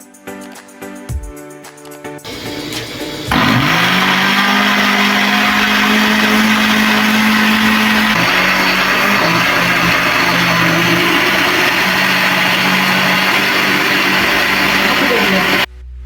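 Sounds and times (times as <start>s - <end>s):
blender motor running: 2.3s - 15.7s.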